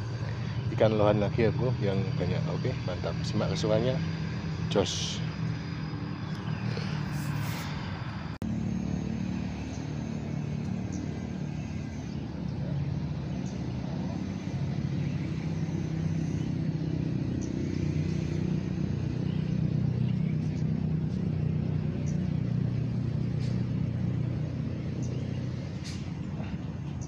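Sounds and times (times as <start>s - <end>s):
engine droning: 0.0s - 27.0s.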